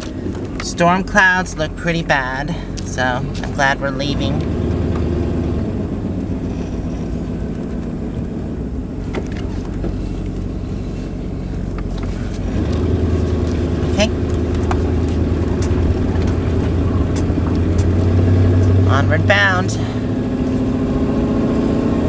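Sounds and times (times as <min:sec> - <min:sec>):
motorhome engine humming: 0:00.0 - 0:22.0.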